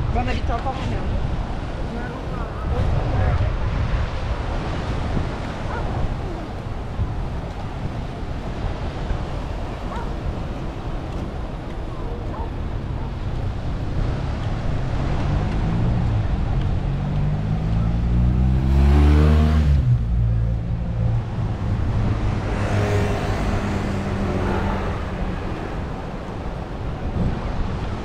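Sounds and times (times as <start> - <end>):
steady traffic: 0.0 - 28.0
vehicles driving past: 0.0 - 28.0.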